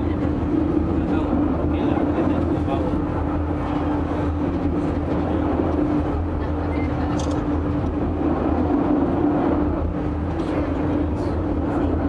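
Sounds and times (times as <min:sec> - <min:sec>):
railway car rumbling: 0:00.0 - 0:12.0.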